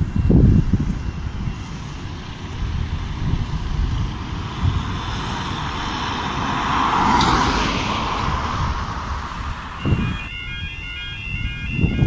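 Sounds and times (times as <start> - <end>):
car passing close: 0.0 - 10.8
road traffic rumble: 0.0 - 12.0.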